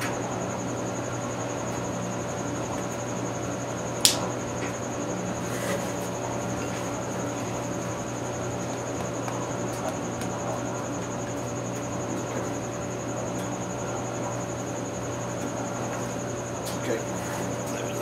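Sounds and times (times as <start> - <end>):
background hum: 0.0 - 18.0
pulsing high-pitched whine: 0.0 - 18.0.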